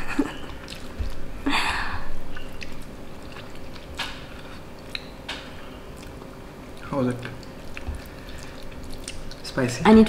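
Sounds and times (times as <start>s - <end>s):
mouth and food sounds: 0.0s - 10.0s.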